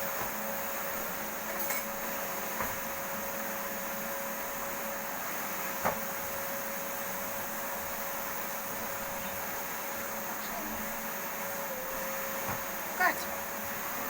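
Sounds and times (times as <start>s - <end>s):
vacuum cleaner whining: 0.0s - 14.0s.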